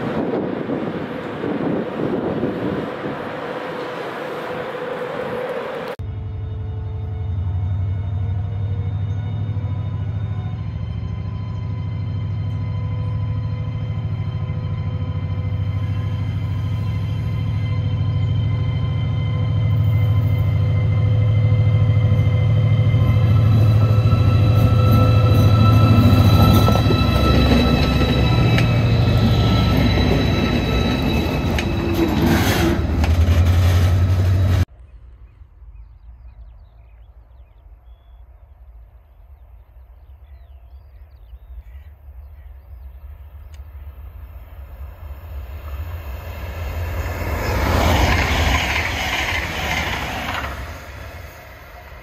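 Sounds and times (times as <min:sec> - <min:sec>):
electric train passing: 0:00.0 - 0:34.7, 0:42.8 - 0:52.0
freight locomotive passing: 0:00.0 - 0:52.0.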